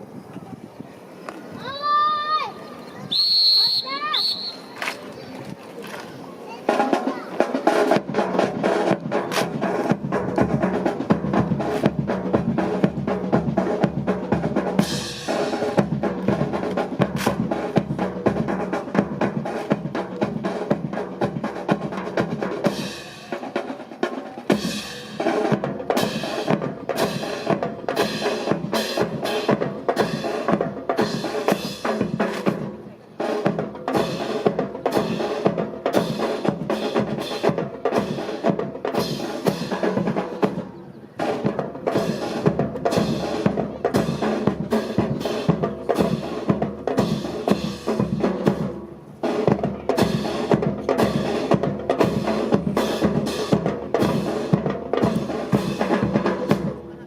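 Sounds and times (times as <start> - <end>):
snare and bass drums marching cadence: 3.1 - 57.0
drum rolls: 6.5 - 57.0.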